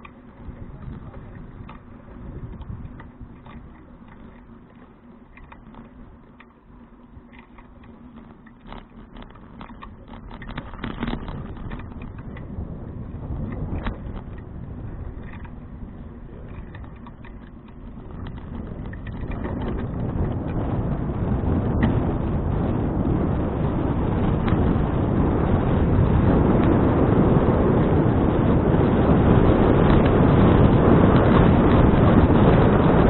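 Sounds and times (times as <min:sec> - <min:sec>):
bicycle clicks and rattles: 0:00.0 - 0:33.0
bicycle tyre and road rumble: 0:00.0 - 0:33.0
wind on microphone: 0:00.0 - 0:33.0.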